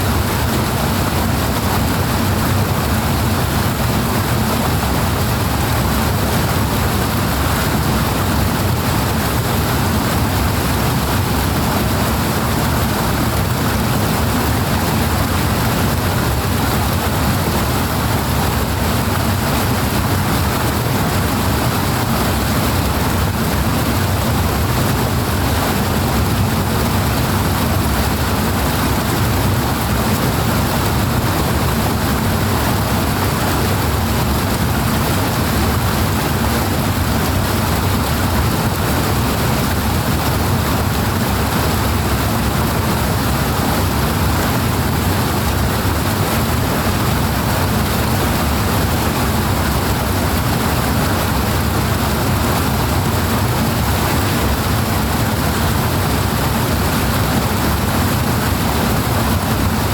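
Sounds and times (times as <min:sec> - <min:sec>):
heavy rushing water: 0:00.0 - 0:59.9.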